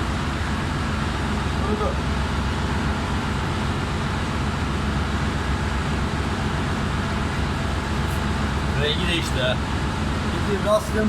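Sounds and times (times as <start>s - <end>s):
engine room machinery drone: 0.0s - 11.0s.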